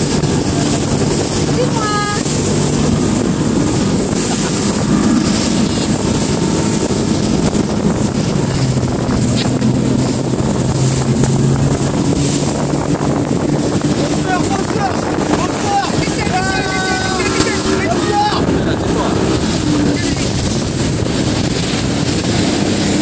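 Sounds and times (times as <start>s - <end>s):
outboard motor at speed: 0.0s - 23.0s
rush of boat wake: 0.0s - 23.0s
wind buffeting microphone: 0.0s - 23.0s.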